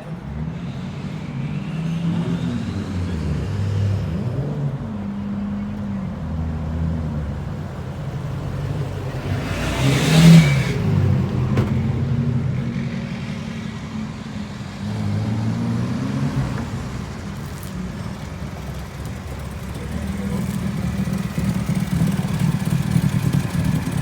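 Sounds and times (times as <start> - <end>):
car engine running and revving: 0.0 - 24.0.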